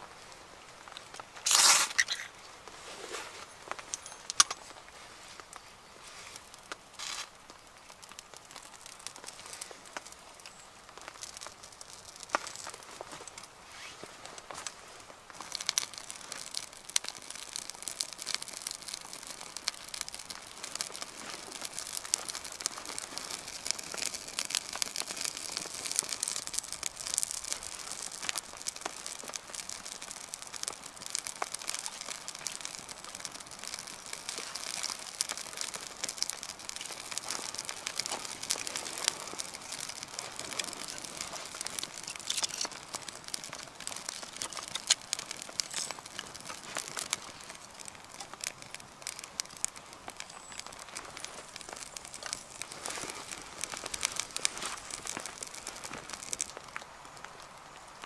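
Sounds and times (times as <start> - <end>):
campfire crackling and snapping: 0.0 - 58.0.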